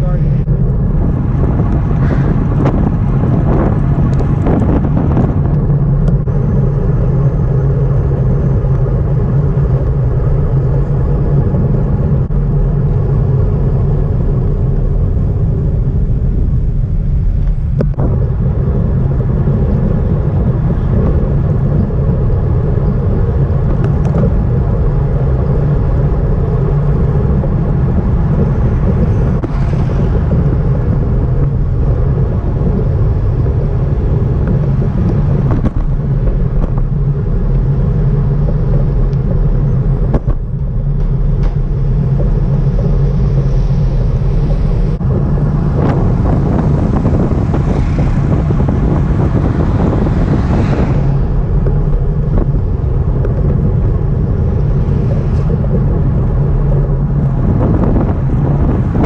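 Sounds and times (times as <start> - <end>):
bicycle road noise: 0.0 - 59.0
wind buffeting microphone: 0.0 - 59.0.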